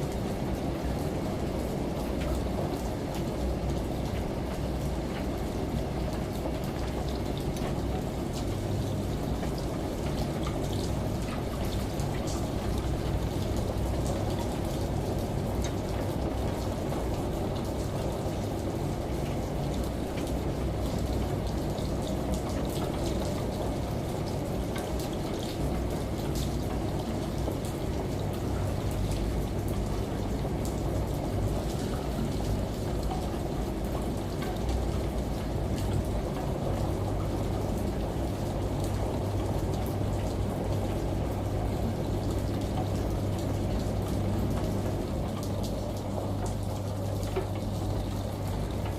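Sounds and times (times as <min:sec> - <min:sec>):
shower water running: 0:00.0 - 0:48.9
steady rain: 0:00.0 - 0:48.9
washing machine humming: 0:00.0 - 0:48.9.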